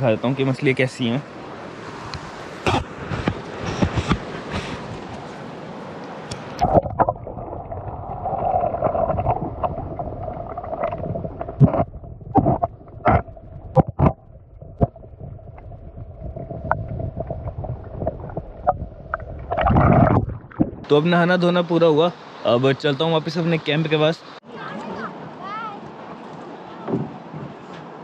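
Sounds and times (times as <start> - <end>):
river water: 0.0 - 15.8, 16.5 - 28.0.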